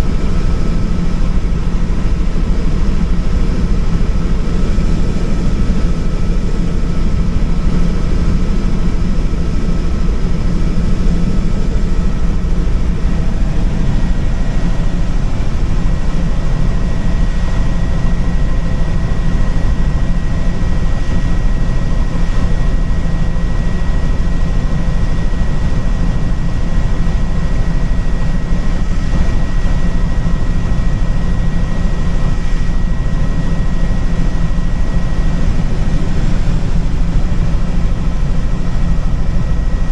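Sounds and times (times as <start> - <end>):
helicopter engine and rotor drone: 0.0 - 39.9
thin steady whine: 0.0 - 39.9.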